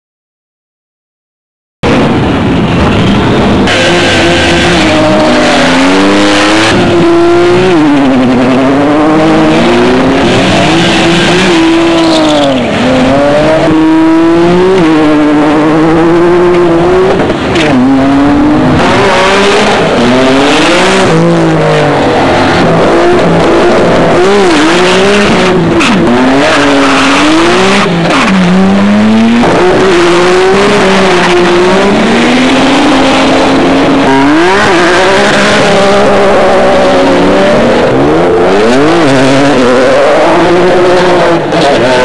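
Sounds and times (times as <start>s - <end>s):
car engines revving hard: 1.8s - 42.0s.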